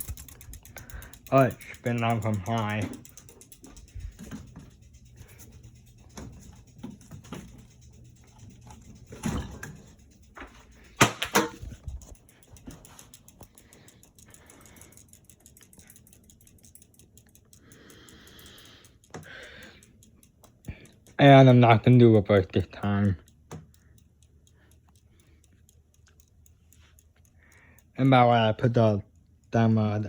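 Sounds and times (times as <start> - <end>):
faint ticking: 0.0 - 11.0, 11.6 - 30.0
ceiling fan motor hum: 0.0 - 30.0.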